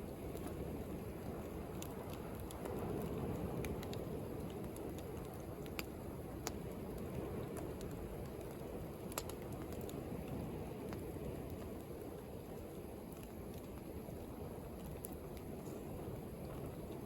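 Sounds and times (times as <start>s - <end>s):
wood bonfire crackling: 0.0s - 17.0s.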